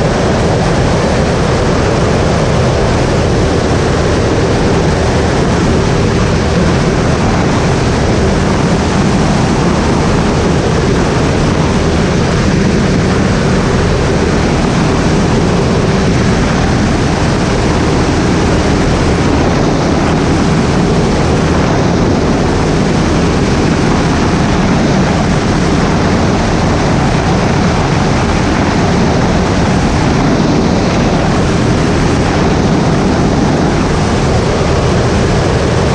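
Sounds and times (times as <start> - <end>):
air noise: 0.0 - 35.9
light aircraft engine drone: 0.0 - 35.9.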